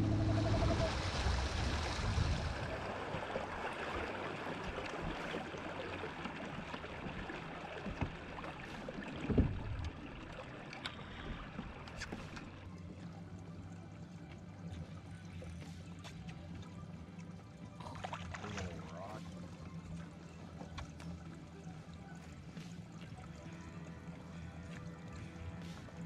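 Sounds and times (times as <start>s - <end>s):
low steady hum: 0.0s - 26.0s
water around boat: 0.0s - 26.0s
wind: 0.0s - 26.0s.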